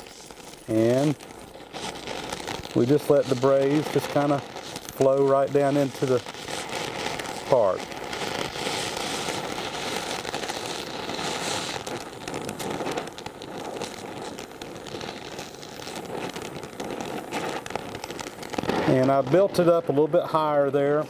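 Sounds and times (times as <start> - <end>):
flux crackling: 0.0 - 21.0
torch flame hissing: 0.0 - 21.0.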